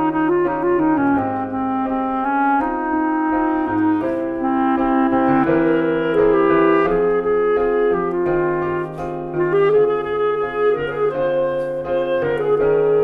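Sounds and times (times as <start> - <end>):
clarinet melody: 0.0 - 13.0
piano chords: 0.0 - 13.0.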